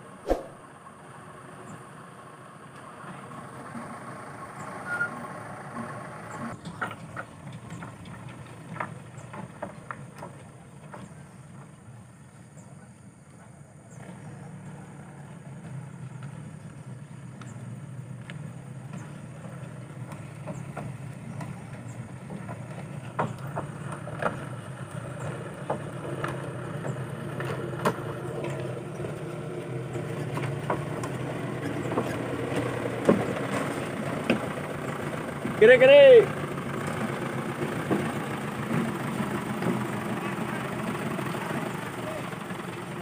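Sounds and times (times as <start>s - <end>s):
dump truck diesel engine reversing: 0.8s - 11.9s, 14.0s - 43.0s.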